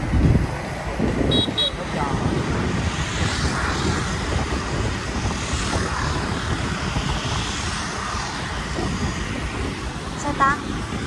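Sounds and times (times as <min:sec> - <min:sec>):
vehicle road noise on wet road: 0:00.0 - 0:11.0
wind rumble: 0:00.0 - 0:11.0.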